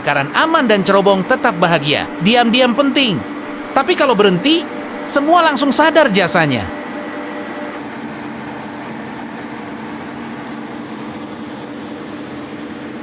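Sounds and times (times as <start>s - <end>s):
fan low hum: 0.0s - 13.0s.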